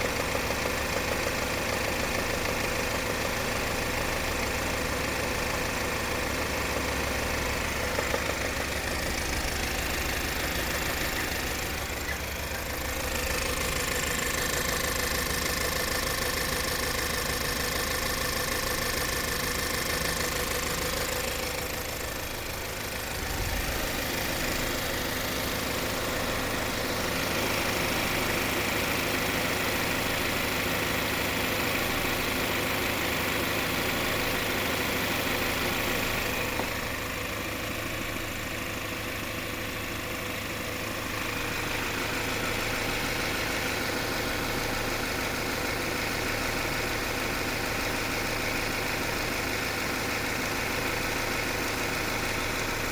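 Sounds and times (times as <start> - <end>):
car engine idling: 0.0 - 52.9
engine knocking: 0.0 - 52.9.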